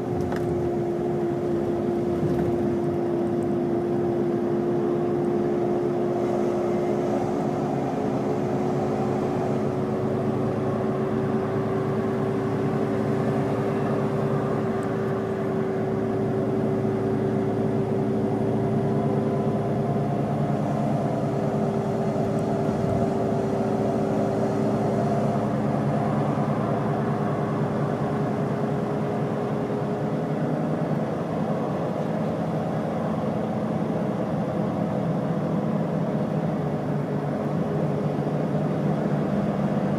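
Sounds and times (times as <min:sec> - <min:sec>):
diesel bus engine running: 0:00.0 - 0:39.9
steady whine: 0:00.0 - 0:39.9.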